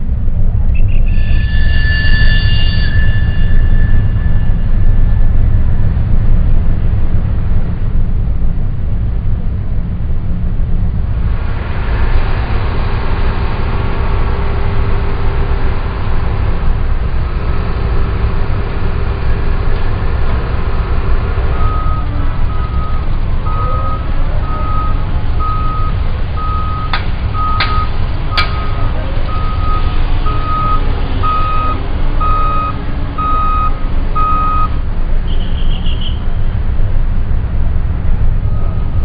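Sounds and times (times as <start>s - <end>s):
city traffic rumble: 0.0s - 39.0s
heavy construction machinery: 0.0s - 39.0s.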